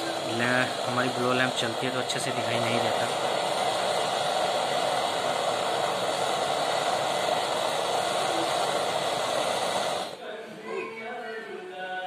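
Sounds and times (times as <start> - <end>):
torch flame hissing: 0.0 - 10.2.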